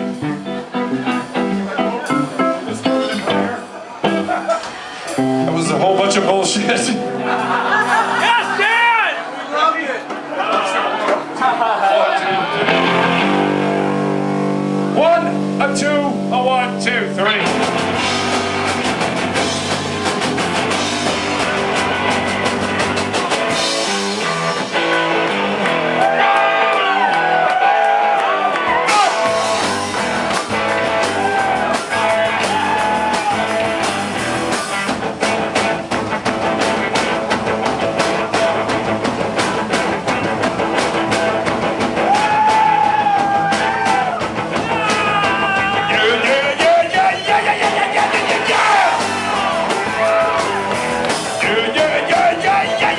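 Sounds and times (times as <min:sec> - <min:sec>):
drum kit: 0:00.0 - 0:09.2, 0:12.2 - 0:52.9
bending lead melody: 0:00.0 - 0:42.8
electric guitar: 0:00.0 - 0:52.9.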